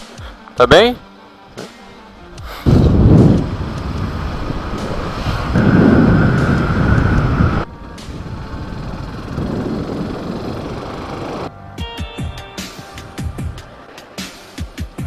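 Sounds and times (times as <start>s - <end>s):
motorcycle road and engine rumble: 1.4s - 15.0s
wind buffeting microphone: 1.5s - 15.0s
faint steady whine: 1.8s - 15.0s.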